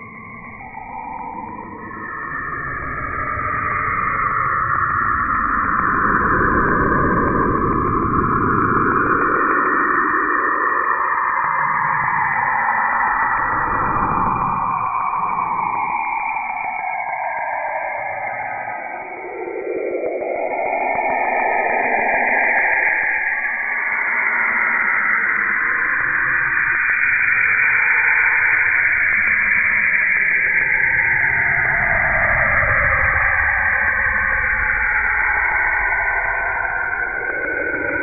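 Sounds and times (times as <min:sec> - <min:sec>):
eerie hissing whistling wash: 0:00.0 - 0:38.0.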